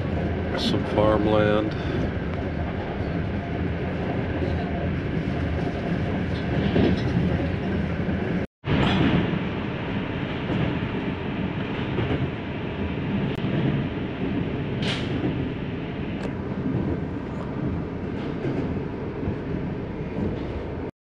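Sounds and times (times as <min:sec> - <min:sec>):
train rumbling: 0:00.0 - 0:20.9.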